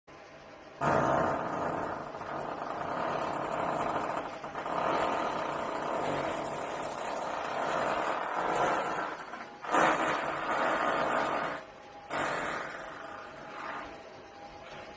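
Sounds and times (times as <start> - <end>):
long buzzing fart: 0.8 - 13.9.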